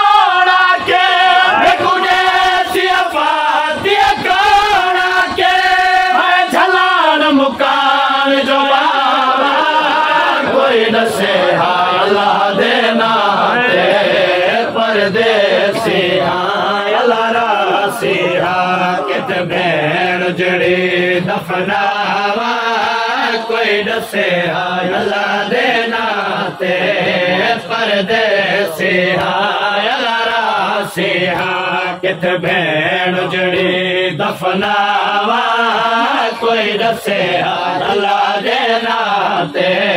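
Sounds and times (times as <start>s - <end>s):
men chanting a lament: 0.0s - 39.9s.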